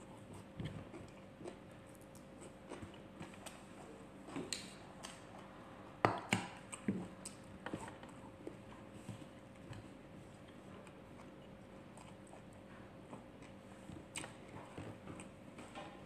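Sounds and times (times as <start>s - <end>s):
chewing and mouth sounds: 0.0s - 15.9s.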